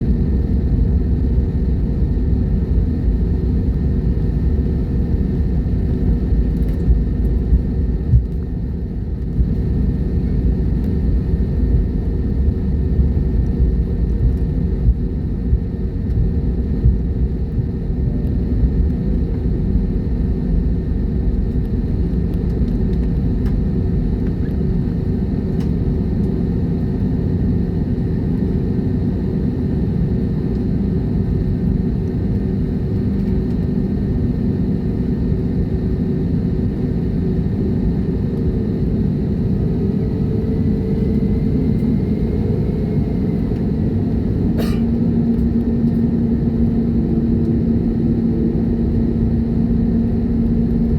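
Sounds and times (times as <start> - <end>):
jet airliner low rumble: 0.0 - 50.9.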